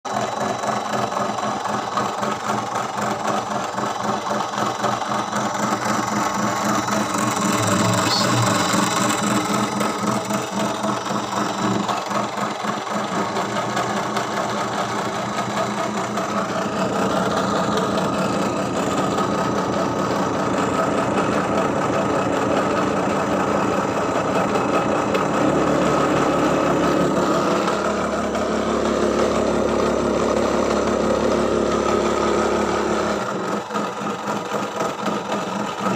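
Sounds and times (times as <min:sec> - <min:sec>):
rc boat motor with rattling gearbox: 0:00.1 - 0:35.9.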